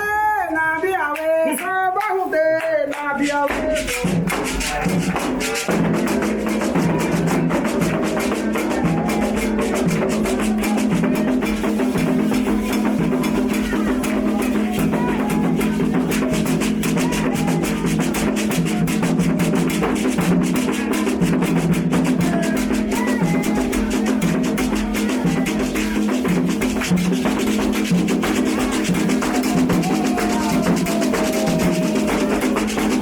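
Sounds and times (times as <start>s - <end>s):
fast dense drumming: 3.5s - 33.0s.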